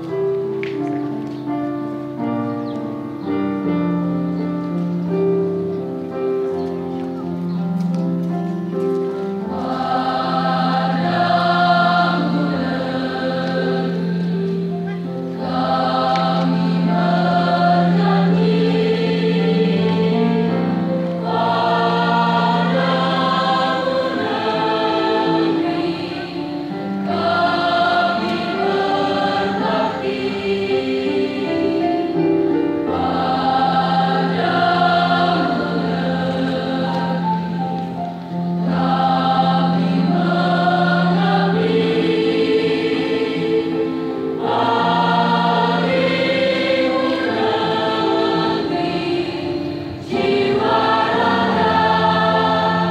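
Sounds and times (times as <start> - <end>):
choir singing: 8.6 - 52.9.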